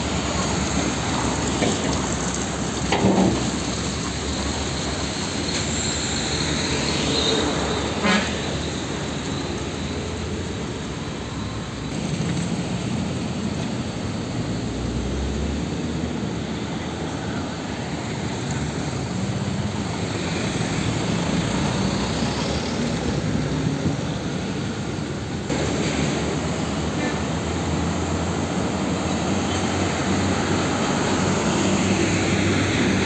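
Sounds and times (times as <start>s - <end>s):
heavy diesel truck engine: 0.0s - 33.0s
road and traffic noise: 0.0s - 33.0s.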